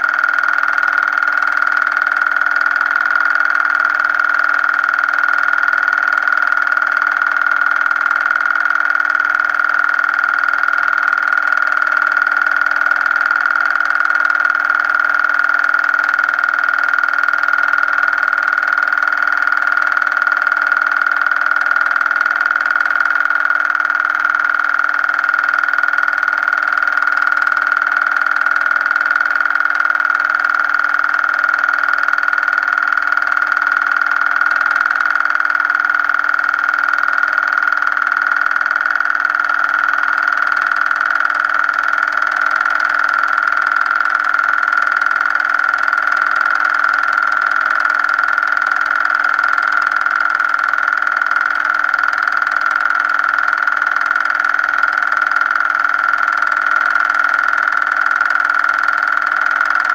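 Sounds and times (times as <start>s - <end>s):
motor whirring: 0.0s - 59.9s.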